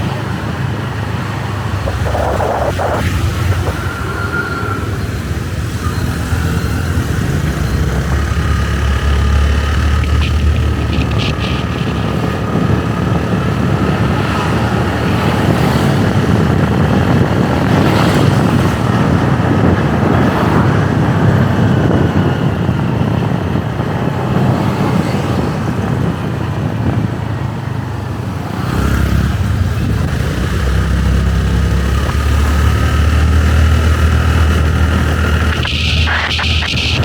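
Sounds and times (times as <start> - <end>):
motorbike engine: 0.0 - 37.0
road noise: 0.0 - 37.0
rushing wind: 0.0 - 37.0.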